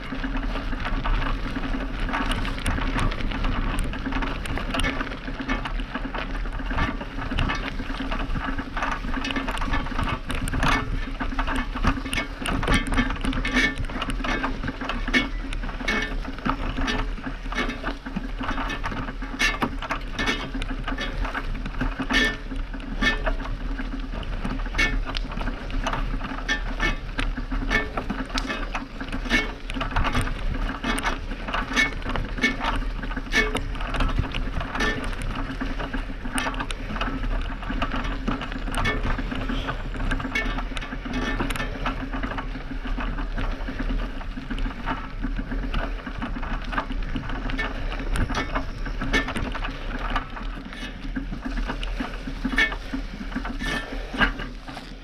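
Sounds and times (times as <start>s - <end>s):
constant low hum: 0.0s - 55.0s
horse hoofbeats galloping: 0.0s - 55.0s
rattling tack: 0.0s - 55.0s
wind rumbling on microphone: 0.0s - 55.0s.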